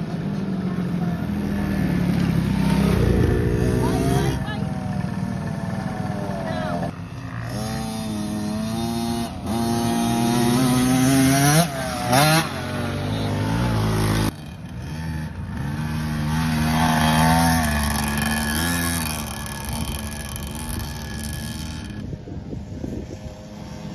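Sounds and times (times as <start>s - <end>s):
motocross bike engines revving: 0.0s - 23.9s.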